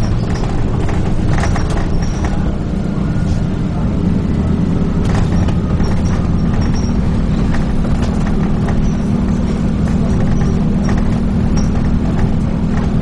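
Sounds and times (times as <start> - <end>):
bodywork clicks and rattles: 0.0 - 3.6, 4.2 - 13.0
bus engine and road drone: 0.0 - 13.0.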